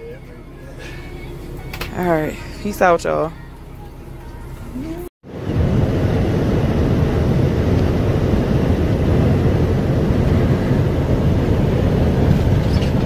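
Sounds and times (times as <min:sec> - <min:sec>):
truck cab rumble at highway speed: 0:00.0 - 0:13.0.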